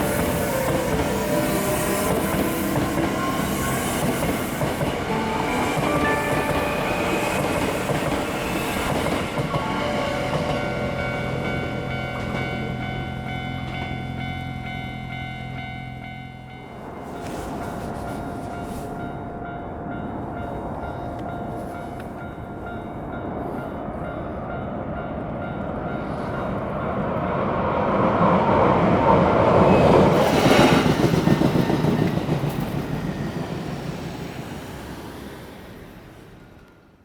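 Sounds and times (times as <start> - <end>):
train passing level crossing: 0.0 - 37.0.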